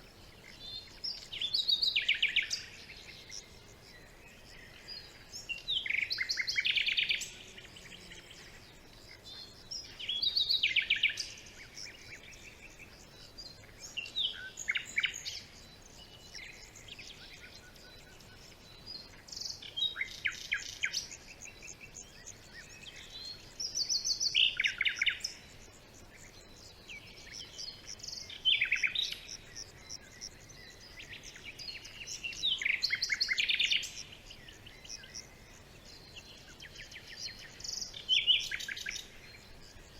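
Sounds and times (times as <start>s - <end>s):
faint background hiss: 0.0s - 39.9s
songbird trilling: 4.3s - 39.9s.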